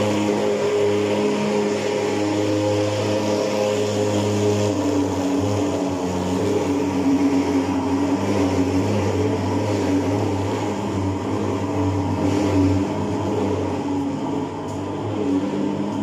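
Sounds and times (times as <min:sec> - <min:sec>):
fogging machine droning: 0:00.0 - 0:16.0.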